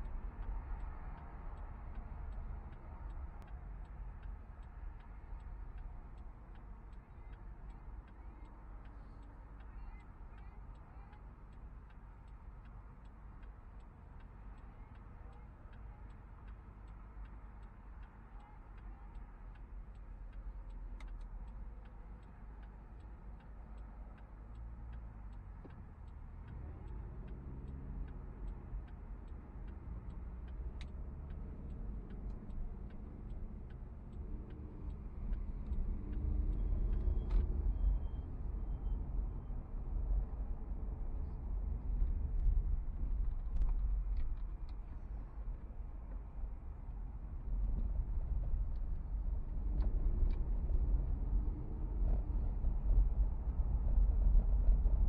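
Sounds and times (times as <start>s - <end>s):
car engine and road rumble: 0.0s - 55.0s
faint regular ticking: 0.0s - 55.0s.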